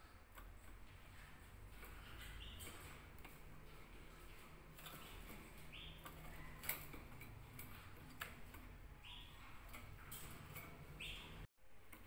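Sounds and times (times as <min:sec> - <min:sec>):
birds ticking on cage wire: 0:00.0 - 0:12.0
canary chirps: 0:00.0 - 0:12.0.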